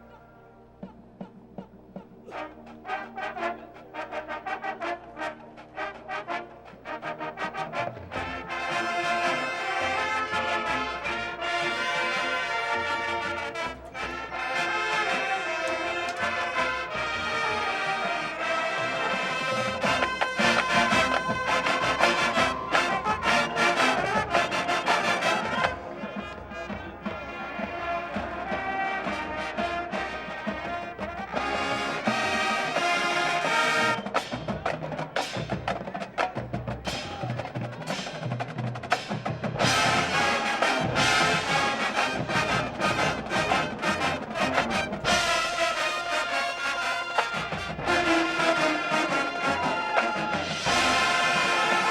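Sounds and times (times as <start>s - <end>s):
marching band playing: 0.8s - 51.9s.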